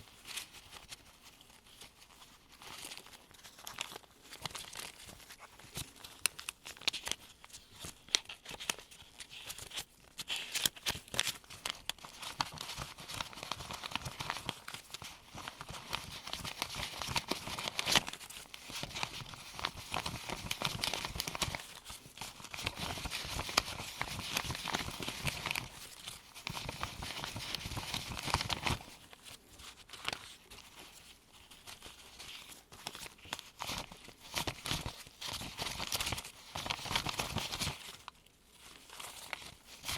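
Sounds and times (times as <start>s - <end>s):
paper bills flicking and rustling: 0.1s - 39.9s.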